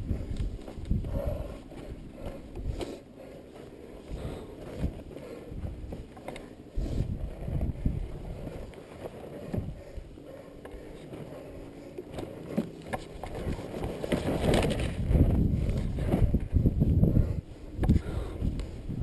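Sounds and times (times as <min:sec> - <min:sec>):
dirt bike engine at low revs: 0:00.0 - 0:19.0.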